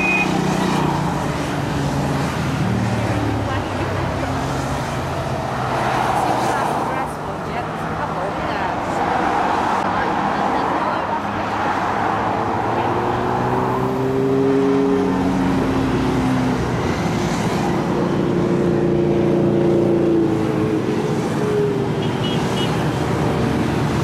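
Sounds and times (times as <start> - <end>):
motorcycles passing: 0.0 - 24.0
road noise: 0.0 - 24.0.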